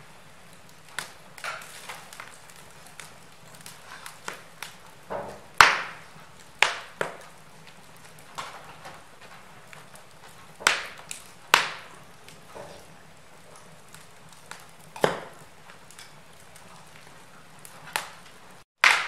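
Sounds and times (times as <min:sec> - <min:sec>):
fire low hiss: 0:00.0 - 0:18.6
wood fire crackling and popping: 0:00.0 - 0:19.0.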